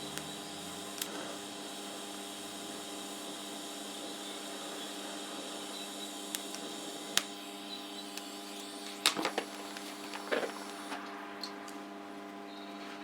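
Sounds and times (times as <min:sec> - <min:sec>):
welding buzz and hiss: 0:00.0 - 0:11.6.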